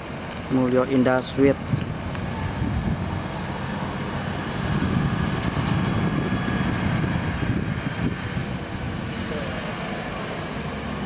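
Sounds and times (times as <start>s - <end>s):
bus diesel engine rumbling: 0.0s - 11.0s.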